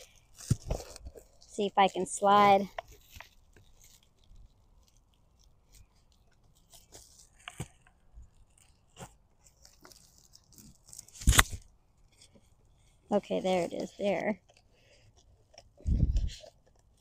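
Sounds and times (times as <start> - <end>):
plastic tubing clicks and rustles: 0.0 - 17.0.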